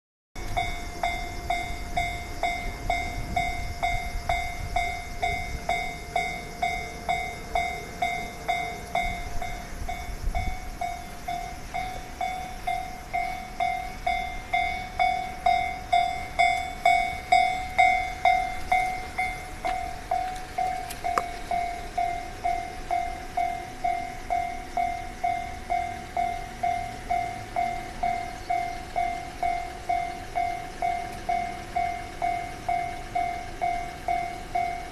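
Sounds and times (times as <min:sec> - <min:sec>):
level-crossing alarm bell: 0:00.4 - 0:34.9
train rumbling past: 0:00.4 - 0:34.9
train wheels clacking: 0:00.4 - 0:34.9.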